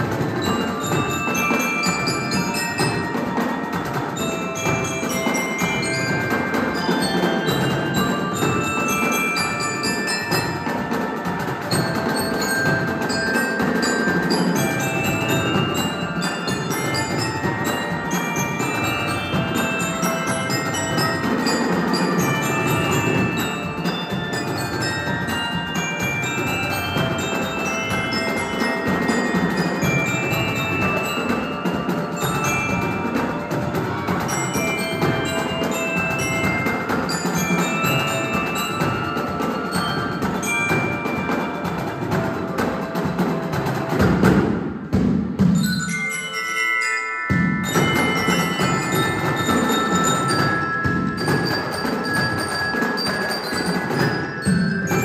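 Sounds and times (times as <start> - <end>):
glockenspiel ringing notes: 0.0 - 44.2, 45.4 - 55.0
drums: 0.0 - 55.0.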